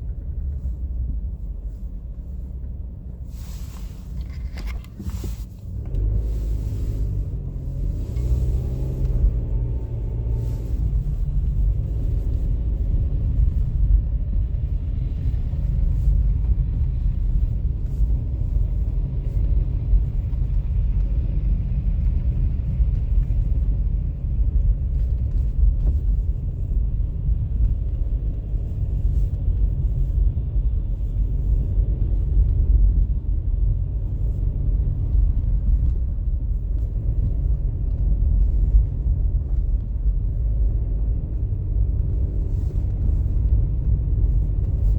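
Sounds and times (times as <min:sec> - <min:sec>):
deep rumble: 0:00.0 - 0:44.9.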